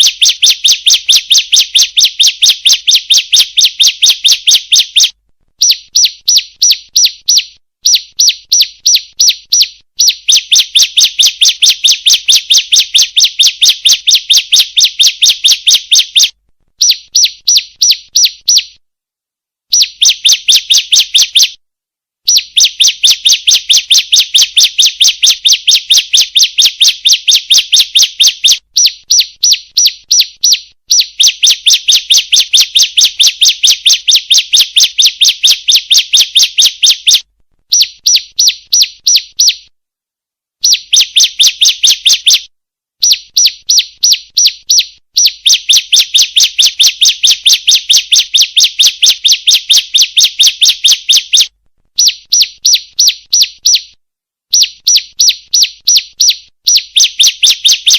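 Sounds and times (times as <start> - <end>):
bird giving rapid sharp chirps: 0.0 - 18.8, 19.7 - 21.6, 22.2 - 39.7, 40.6 - 57.9.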